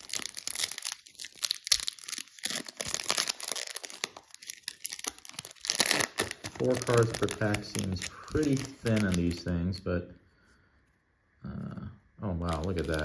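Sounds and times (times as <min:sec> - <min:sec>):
foil wrapper tearing and crinkling: 0:00.0 - 0:09.8, 0:12.4 - 0:13.0.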